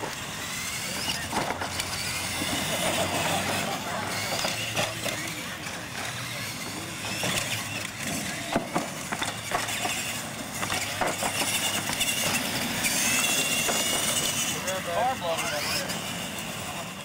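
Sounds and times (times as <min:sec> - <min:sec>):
model truck motors whirring: 0:00.0 - 0:17.0
trucks knocking over wooden ramps: 0:00.8 - 0:14.6.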